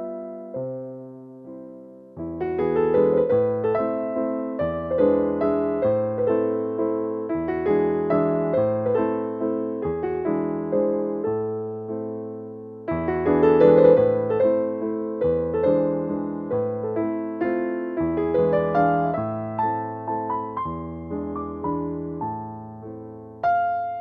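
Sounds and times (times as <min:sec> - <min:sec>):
electric piano playing calm tune: 0:00.0 - 0:24.0.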